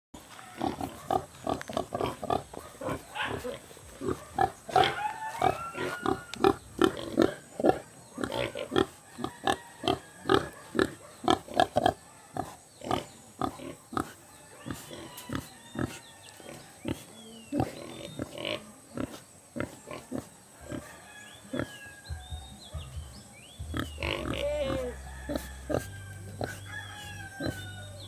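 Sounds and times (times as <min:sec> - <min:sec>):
pigs grunting: 0:00.5 - 0:21.9, 0:23.6 - 0:28.0.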